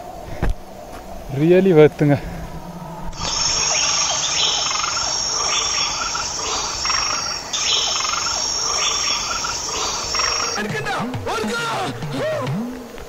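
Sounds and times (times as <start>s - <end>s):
insects shrilling: 0.3s - 11.0s.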